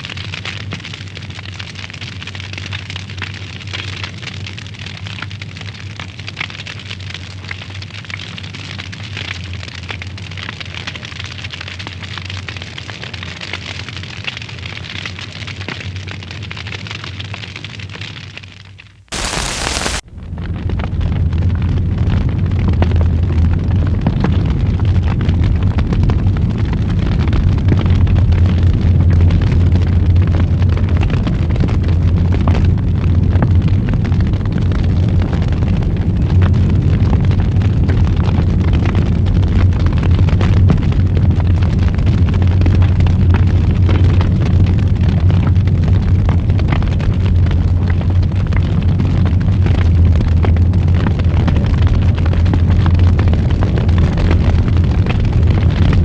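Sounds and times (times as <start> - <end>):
wood fire crackling and popping: 0.0 - 18.4, 19.1 - 56.0.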